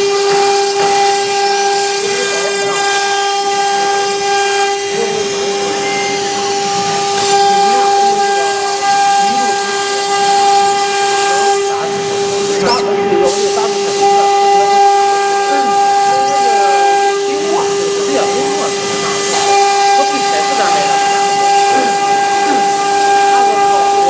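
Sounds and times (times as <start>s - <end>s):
router bit cutting hiss: 0.0s - 24.0s
spindle high-pitched whine: 0.0s - 24.0s.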